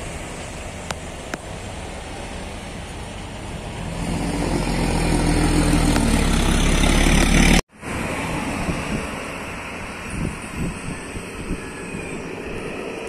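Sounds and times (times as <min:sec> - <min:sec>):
quieter approaching traffic: 0:00.0 - 0:13.0
vehicle approaching: 0:00.0 - 0:13.0.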